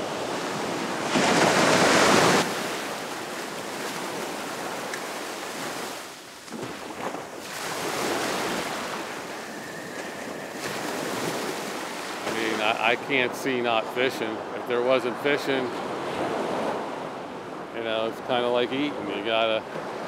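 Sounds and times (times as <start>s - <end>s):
ocean surf breaking: 0.0s - 20.0s.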